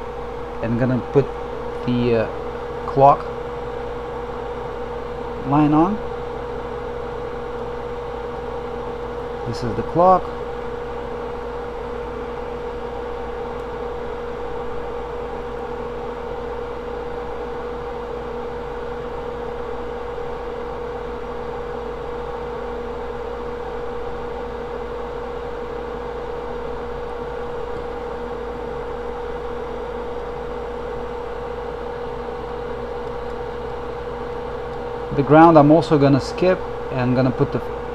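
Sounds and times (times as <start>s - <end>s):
steady machine hum: 0.0s - 37.9s.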